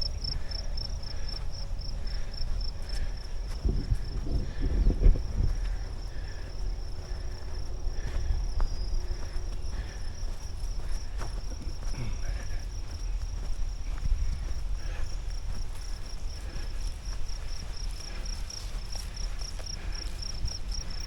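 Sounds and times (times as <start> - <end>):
footsteps thumping on trail: 0.0 - 21.0
insects trilling: 0.0 - 21.0.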